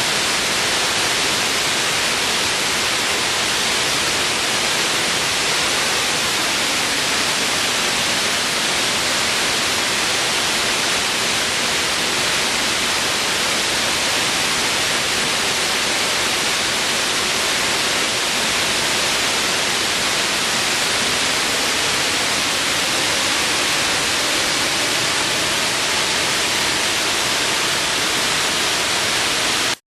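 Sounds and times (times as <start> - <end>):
waterfall rushing: 0.0 - 29.8.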